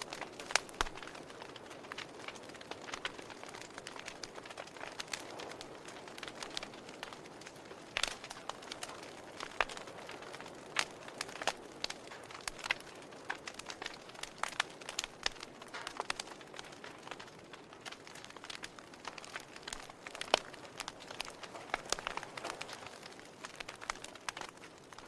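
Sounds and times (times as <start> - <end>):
sharp pops and snaps: 0.0 - 25.0
soft fire hiss: 0.0 - 25.0
wood fire crackling: 0.0 - 25.0.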